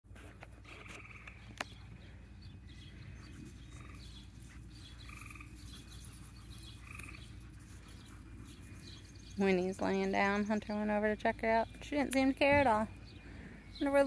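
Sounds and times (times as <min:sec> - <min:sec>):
steady low rumble: 0:00.4 - 0:14.0.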